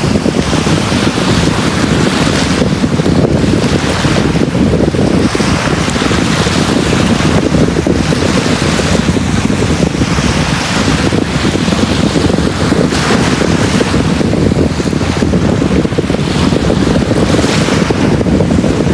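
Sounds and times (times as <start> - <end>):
sea waves breaking on beach: 0.0 - 18.9
wind rumble on microphone: 0.0 - 18.9.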